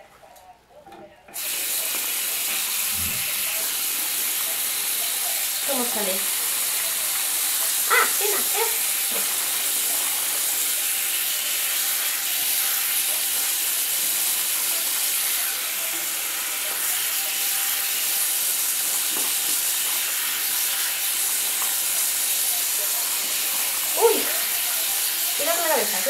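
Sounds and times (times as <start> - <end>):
water running from a sink tap: 1.4 - 26.0.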